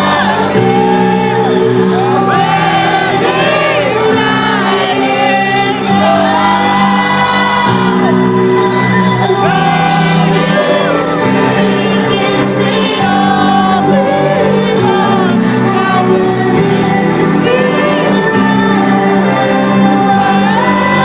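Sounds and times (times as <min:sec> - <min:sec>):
trance music with sung vocals: 0:00.0 - 0:21.0.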